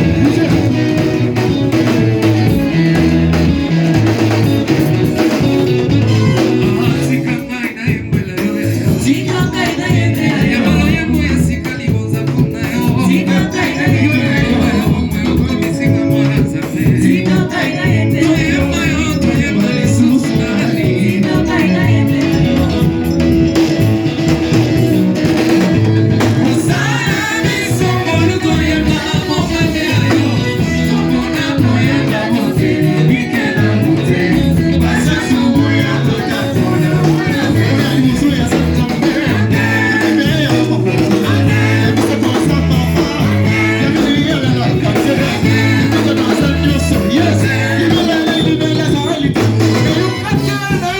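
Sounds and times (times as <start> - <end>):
band with bass line: 0.0 - 50.9
voices singing worship song: 0.0 - 50.9.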